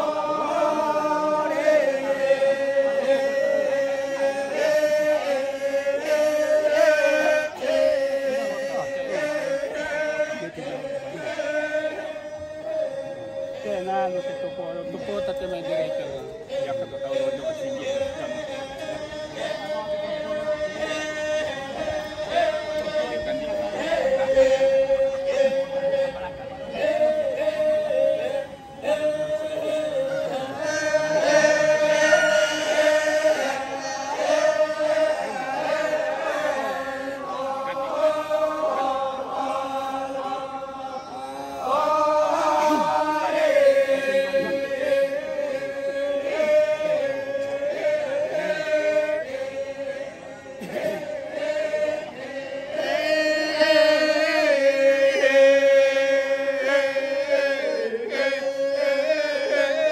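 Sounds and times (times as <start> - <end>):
group of voices chanting: 0.0 - 14.1, 14.7 - 59.9.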